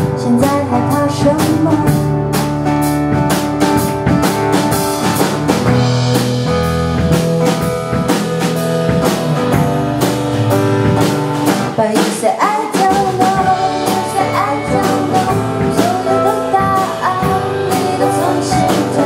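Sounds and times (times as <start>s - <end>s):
bass guitar: 0.0s - 12.0s, 12.7s - 19.0s
electric guitar: 0.0s - 12.0s, 12.6s - 19.0s
drum kit beat: 0.0s - 19.0s.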